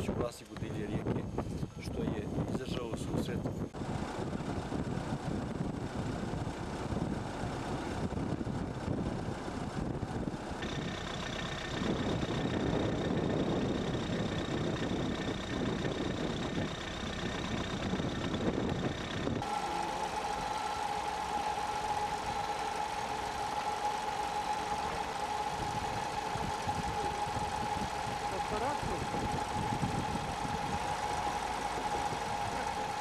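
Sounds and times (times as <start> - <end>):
steady high whine: 0.0 - 33.0
backhoe diesel engine running: 3.7 - 33.0.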